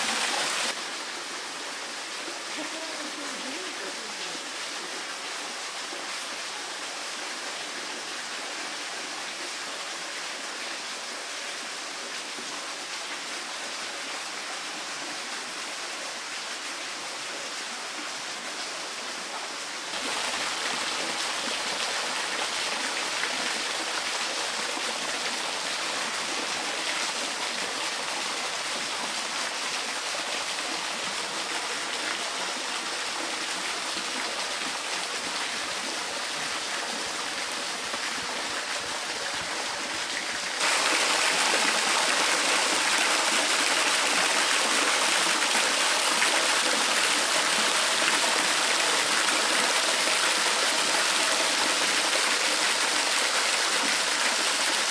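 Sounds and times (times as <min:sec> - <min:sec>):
water running and splashing: 0:00.0 - 0:54.9.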